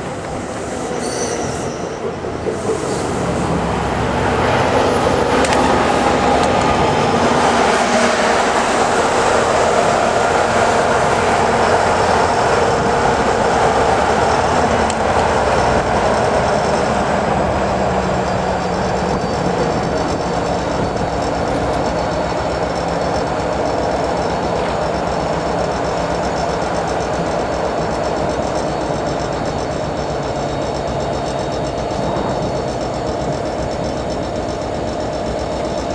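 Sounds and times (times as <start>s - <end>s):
train wheels on track: 0.0s - 35.9s.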